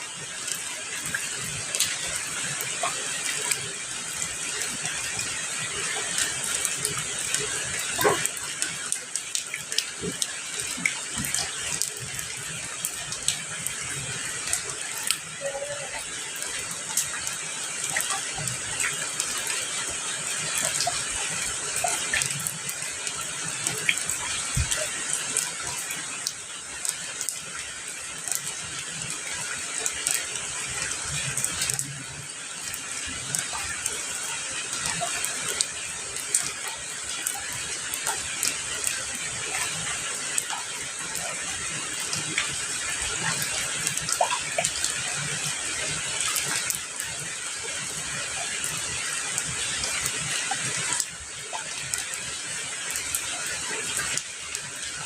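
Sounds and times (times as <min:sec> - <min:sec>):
steady rain hiss: 0:00.0 - 0:55.0
raindrops ticking: 0:00.1 - 0:55.0.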